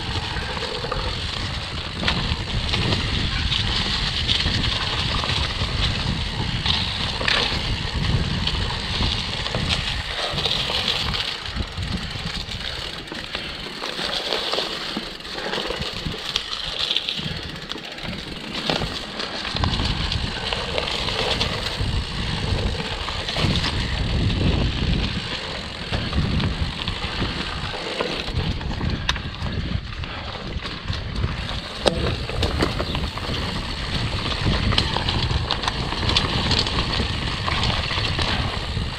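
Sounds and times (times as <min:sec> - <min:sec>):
bike clicks and rattles: 0:00.0 - 0:38.9
bike tyres rolling over dirt: 0:00.0 - 0:38.9.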